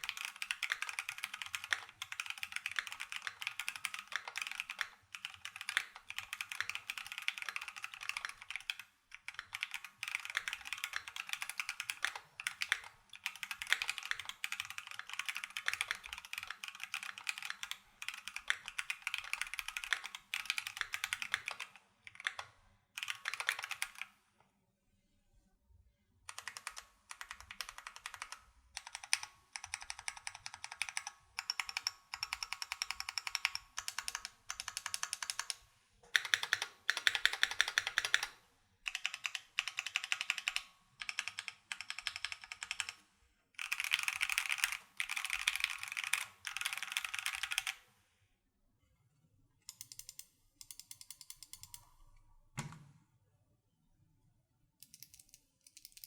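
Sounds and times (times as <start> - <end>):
mechanical keyboard typing: 0.0 - 24.2, 26.3 - 43.0, 43.6 - 47.8, 49.7 - 52.0, 54.8 - 56.0.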